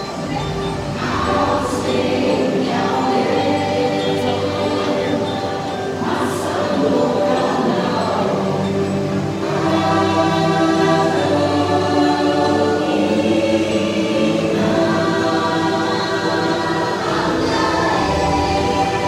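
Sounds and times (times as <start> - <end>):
choir singing held notes: 0.0 - 19.0
music: 0.0 - 19.0.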